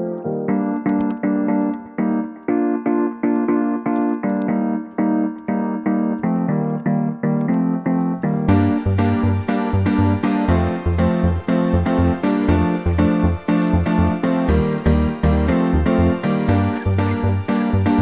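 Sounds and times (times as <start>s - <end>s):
piano notes: 0.0s - 18.0s.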